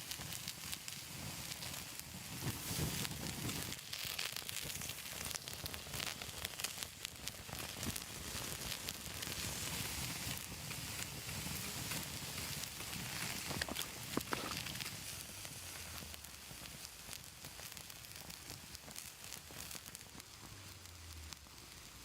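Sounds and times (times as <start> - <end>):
food sizzling over fire: 0.0 - 22.0
wood fire crackling and popping: 0.0 - 22.0.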